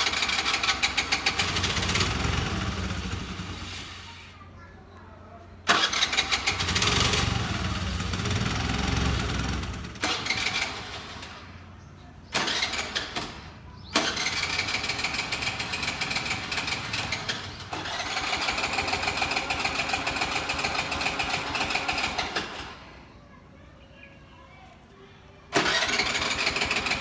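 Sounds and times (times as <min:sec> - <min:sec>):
scooter starter cranking engine: 0:00.0 - 0:04.3, 0:05.6 - 0:23.0, 0:25.5 - 0:27.0.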